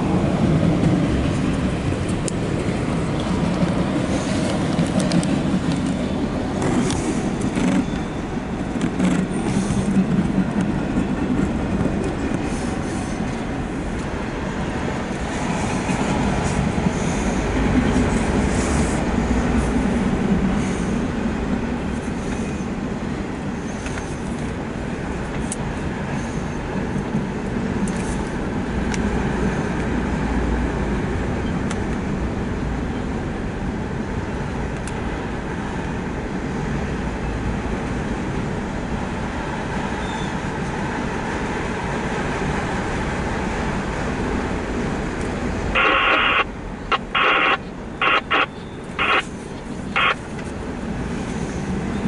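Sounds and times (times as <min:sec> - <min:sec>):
freight car wheels rumbling on rail: 0:00.0 - 0:52.0.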